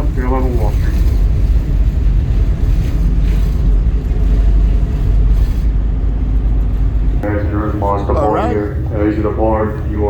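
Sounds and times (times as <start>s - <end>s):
ferry engines rumbling: 0.0s - 10.0s.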